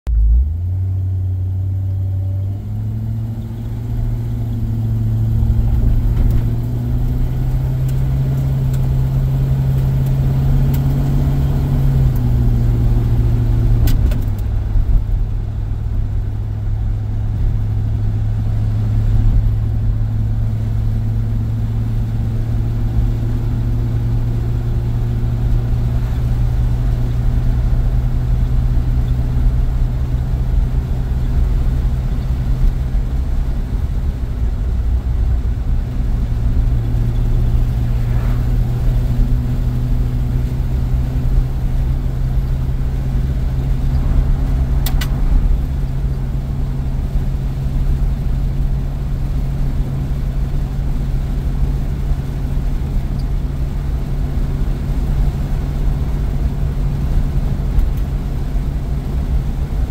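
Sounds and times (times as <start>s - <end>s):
car engine from inside cabin: 0.1s - 59.9s.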